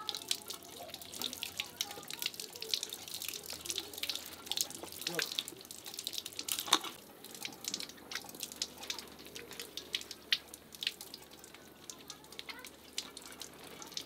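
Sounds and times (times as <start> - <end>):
water running from tap: 0.0 - 14.0
water splashing and dripping: 0.0 - 14.0.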